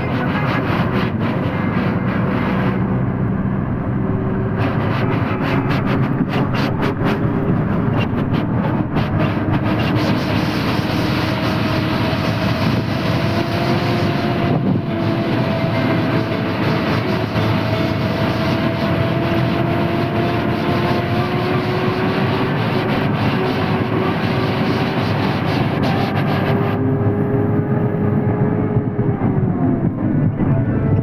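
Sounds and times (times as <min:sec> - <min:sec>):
truck engine drone: 0:00.0 - 0:31.0.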